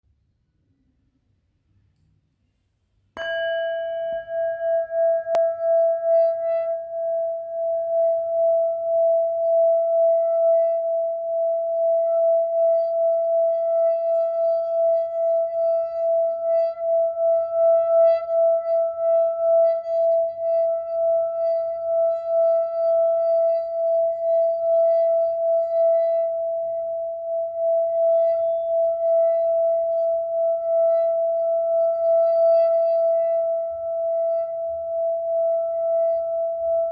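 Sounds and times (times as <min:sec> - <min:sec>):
singing bowl ringing: 0:03.2 - 0:36.9.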